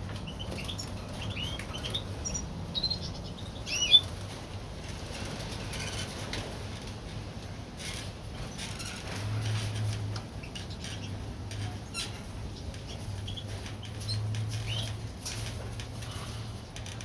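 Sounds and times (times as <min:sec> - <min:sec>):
birds fluttering and hopping: 0:00.0 - 0:17.0.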